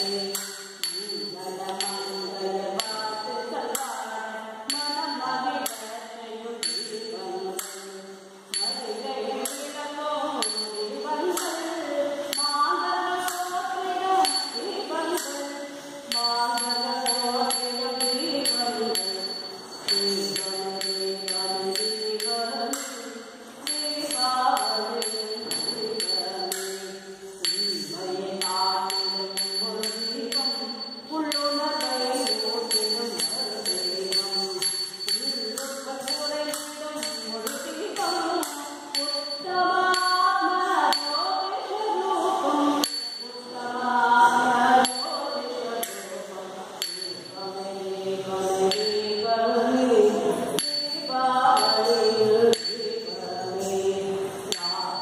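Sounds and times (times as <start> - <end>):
person singing a melody: 0.0 - 55.0.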